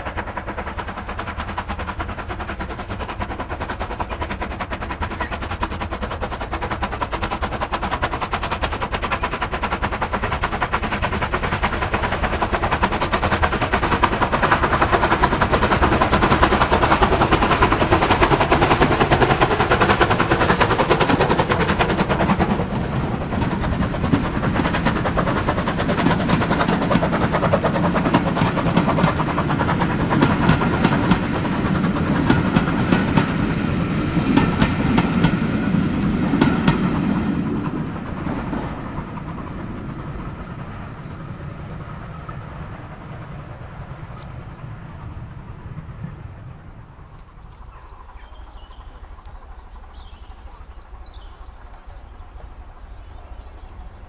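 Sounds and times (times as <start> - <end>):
wheels clicking over track: 0.0 - 53.8
steam locomotive exhaust beats: 0.0 - 54.0
train coaches rumbling by: 0.0 - 54.0.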